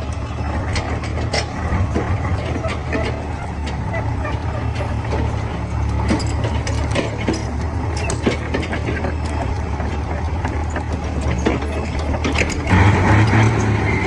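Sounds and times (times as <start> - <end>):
clicks and knocks of metal and wood: 0.0 - 14.0
diesel engine idling: 0.0 - 14.0.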